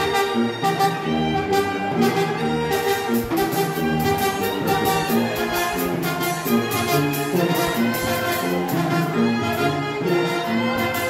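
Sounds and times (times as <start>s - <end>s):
brass band playing a tune: 0.0s - 11.0s.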